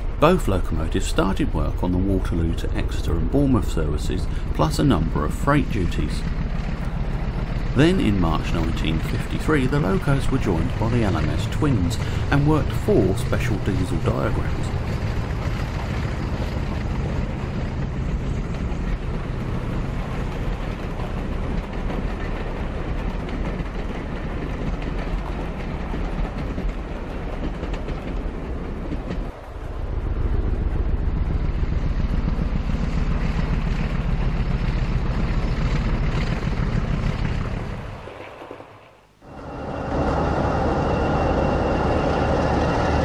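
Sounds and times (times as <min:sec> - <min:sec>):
model train running on track: 0:00.0 - 0:43.0.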